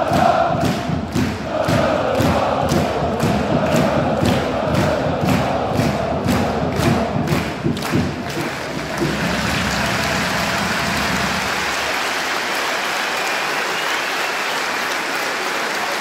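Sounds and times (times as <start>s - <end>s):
crowd applauding: 1.2s - 16.0s.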